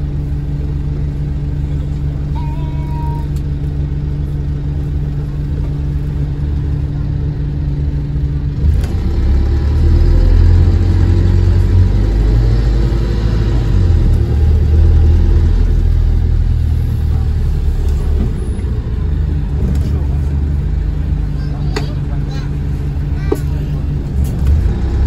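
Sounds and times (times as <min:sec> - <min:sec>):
bus engine pulling away: 0:00.0 - 0:25.0.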